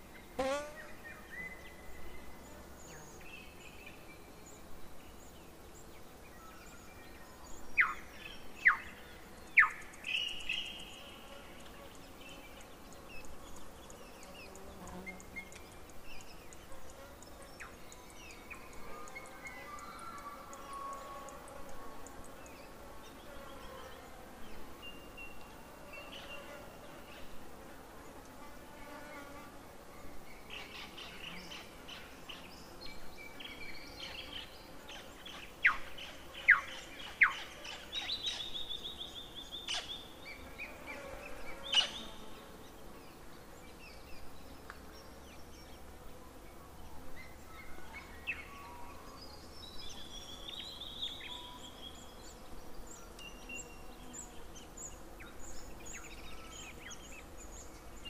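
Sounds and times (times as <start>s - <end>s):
birds chirping and trilling: 0.8s - 27.4s, 30.0s - 45.9s, 46.5s - 58.0s.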